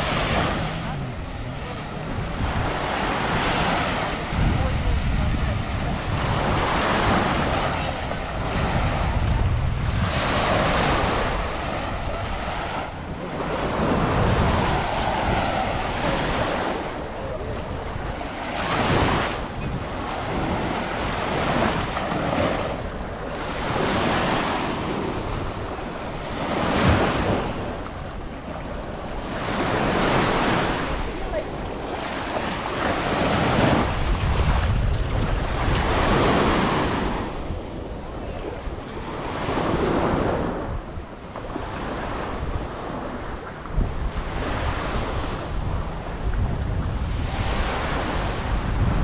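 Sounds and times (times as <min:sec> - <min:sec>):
sea waves breaking on a beach: 0:00.0 - 0:49.0
wind buffeting the microphone: 0:00.0 - 0:49.0.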